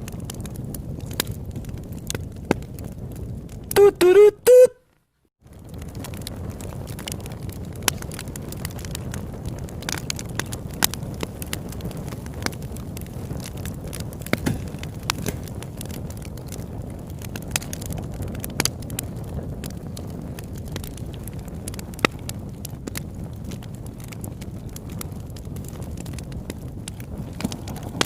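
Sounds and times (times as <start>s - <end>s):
low rush of flames: 0.0s - 3.8s, 5.4s - 28.0s
wood popping and snapping: 0.0s - 4.6s, 5.5s - 19.0s, 19.6s - 28.0s.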